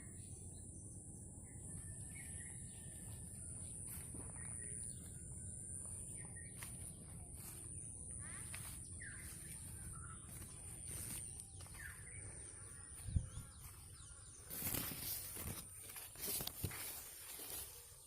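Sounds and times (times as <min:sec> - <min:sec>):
faint bird chirps: 0:00.0 - 0:17.8.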